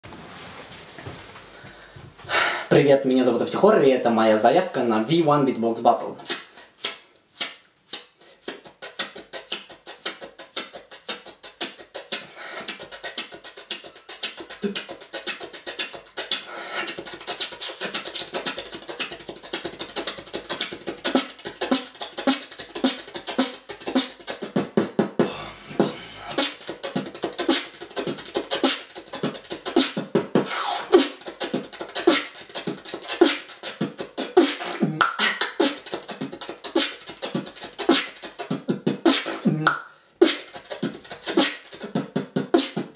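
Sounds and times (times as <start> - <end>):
beatboxing drum sounds: 3.2 - 42.9
pitched vocal notes: 8.4 - 42.9.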